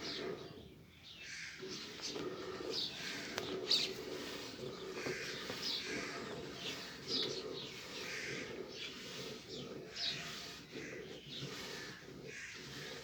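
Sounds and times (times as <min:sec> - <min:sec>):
birds chirping: 0:00.0 - 0:13.0
low murmuring bird calls: 0:00.0 - 0:13.0.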